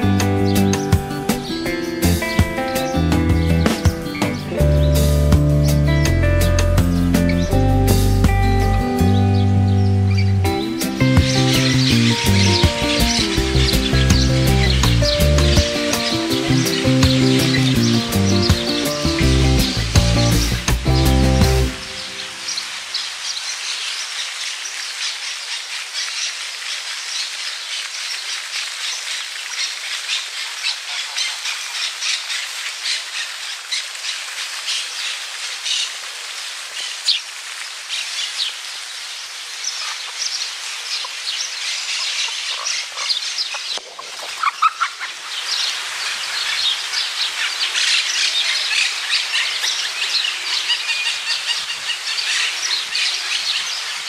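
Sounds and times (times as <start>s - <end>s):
chorus of small birds chirping: 0.0s - 36.0s, 36.6s - 54.0s.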